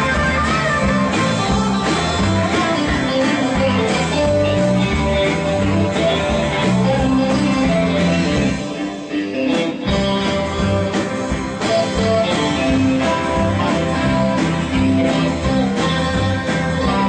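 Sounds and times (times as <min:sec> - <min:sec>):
live pop-rock band: 0:00.0 - 0:17.0.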